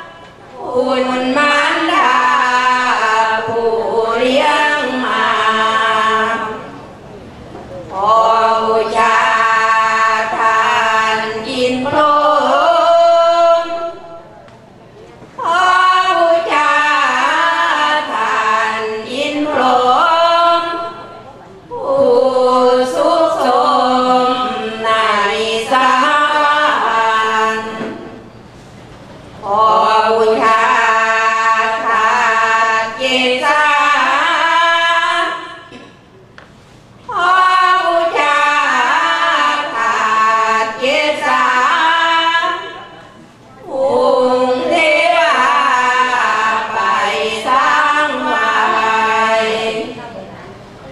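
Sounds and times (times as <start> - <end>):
women singing sliding phrases: 0.0 - 6.7, 7.9 - 14.2, 15.4 - 28.0, 29.4 - 35.8, 37.1 - 42.9, 43.6 - 50.0
woman chanting: 0.0 - 6.8, 7.9 - 14.3, 15.4 - 28.1, 29.4 - 35.8, 37.1 - 50.5.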